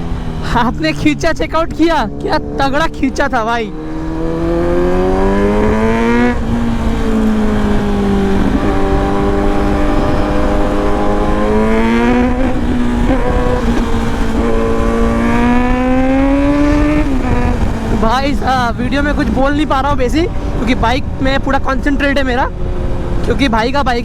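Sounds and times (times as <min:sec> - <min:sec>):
motorcycle engine accelerating: 0:00.0 - 0:24.0
wind rumble on microphone: 0:00.0 - 0:24.0.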